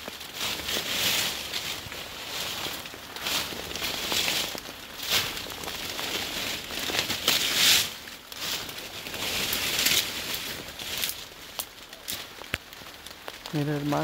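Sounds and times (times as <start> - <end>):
branches rustling and crackling: 0.0 - 14.0.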